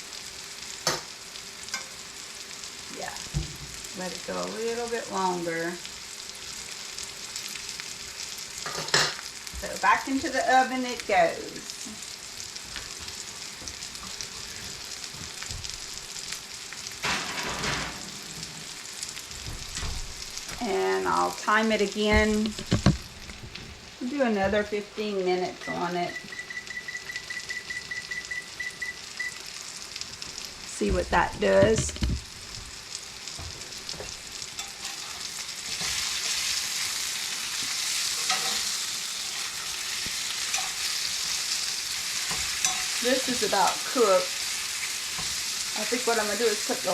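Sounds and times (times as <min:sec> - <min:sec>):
food sizzling in a frying pan: 0:00.0 - 0:46.9.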